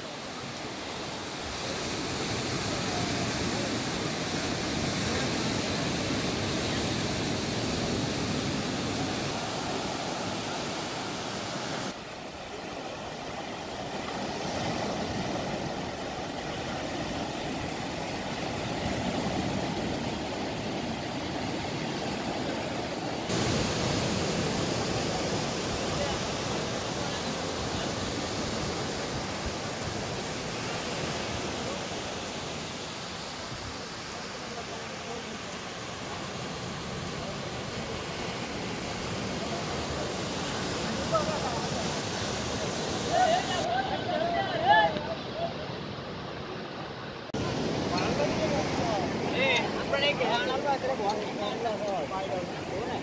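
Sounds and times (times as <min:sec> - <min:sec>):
surf breaking on a beach: 0:00.0 - 0:53.0.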